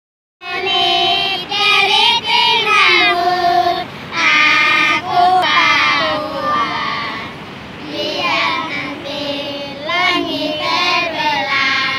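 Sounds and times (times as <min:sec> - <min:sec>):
children singing in unison: 0:00.4 - 0:11.9.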